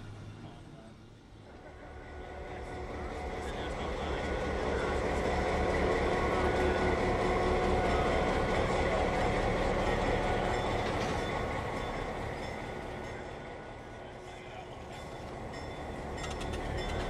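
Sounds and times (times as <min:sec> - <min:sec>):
diesel locomotive passing: 0:00.0 - 0:17.0.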